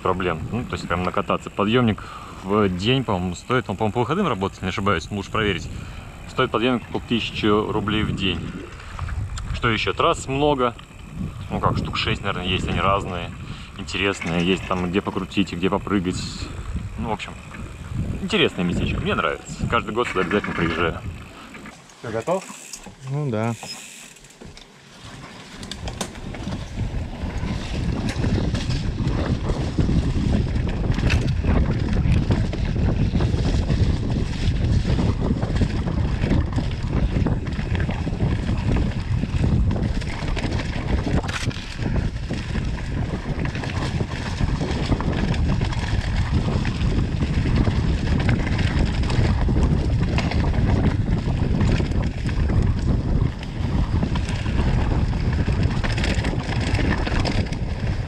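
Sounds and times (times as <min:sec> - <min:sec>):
wind rushing over microphone: 0:00.0 - 0:22.2, 0:25.6 - 0:58.0
bike knocking and rattling: 0:00.0 - 0:58.0.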